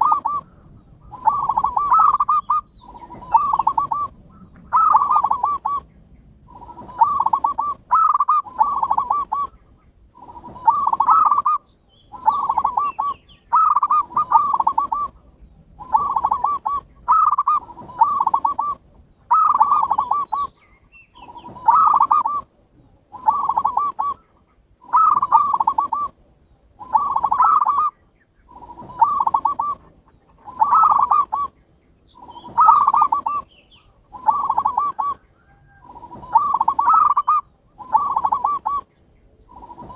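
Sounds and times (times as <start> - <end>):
dove cooing: 0.0 - 26.2, 26.8 - 39.9.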